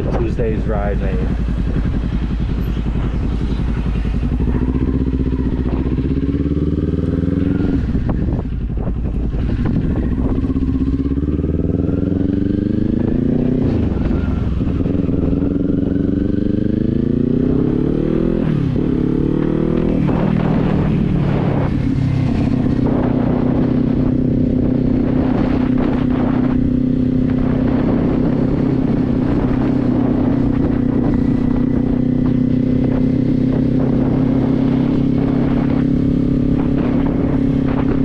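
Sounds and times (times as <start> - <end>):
motorcycle engine accelerating: 0.0 - 38.0
wind rumbling on microphone: 0.0 - 38.0.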